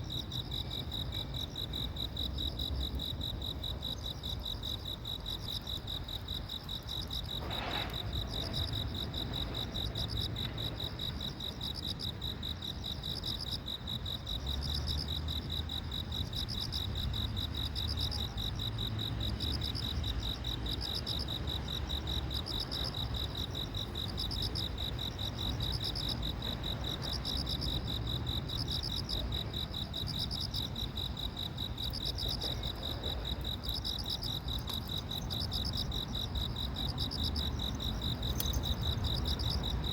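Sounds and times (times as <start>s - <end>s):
crickets trilling: 0.0s - 39.9s
higher insect call: 0.0s - 39.9s.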